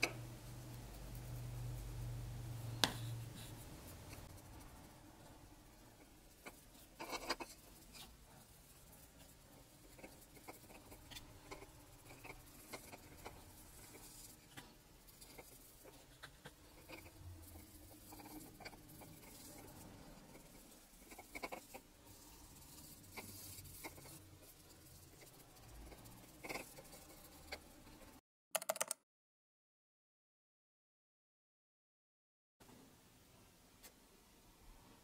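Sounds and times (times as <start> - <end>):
paintbrush tapping and scratching: 0.0 - 28.9.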